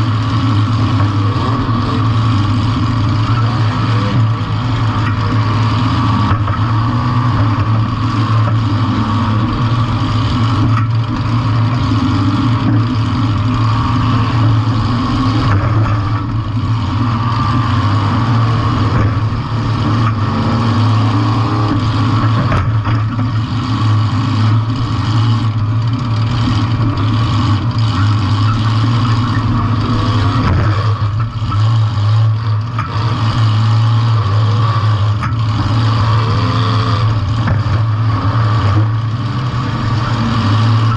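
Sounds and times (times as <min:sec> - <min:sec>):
car engine running loud: 0:00.0 - 0:40.9.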